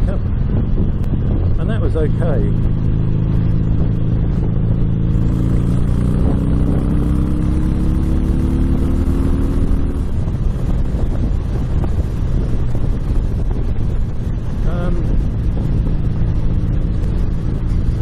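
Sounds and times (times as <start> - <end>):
motorcycle engine running: 0.0 - 18.0
wind rushing on microphone: 0.0 - 18.0.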